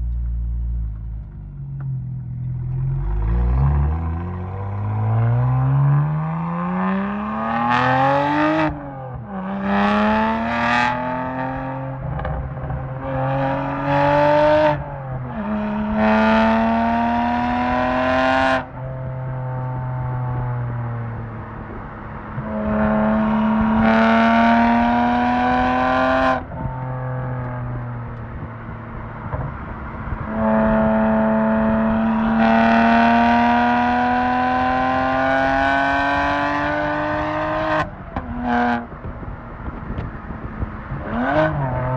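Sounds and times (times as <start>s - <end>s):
car engine accelerating through gears: 1.2s - 41.9s.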